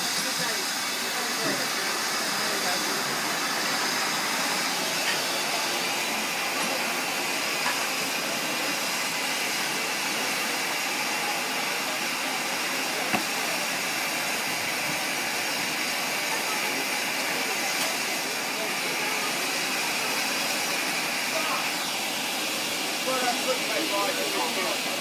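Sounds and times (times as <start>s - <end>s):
steam locomotive hissing: 0.0s - 25.0s.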